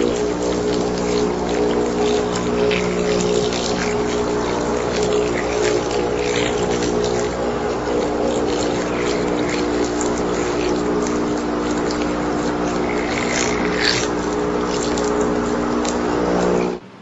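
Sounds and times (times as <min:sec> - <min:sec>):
loudspeaker low buzz: 0:00.0 - 0:16.8.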